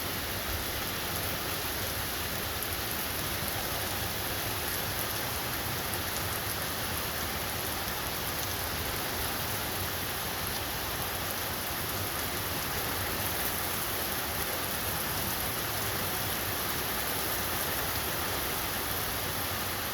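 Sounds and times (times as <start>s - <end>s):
rain falling steadily: 0.0s - 19.9s.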